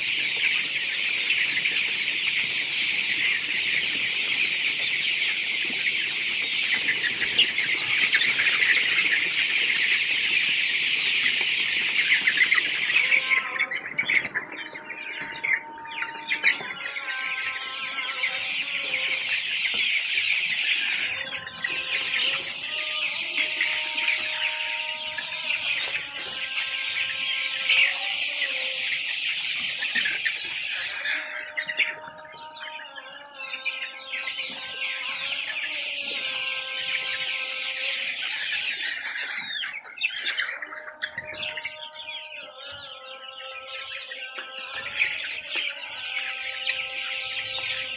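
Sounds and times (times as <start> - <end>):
chicks peeping and chirping: 0.0 - 47.9.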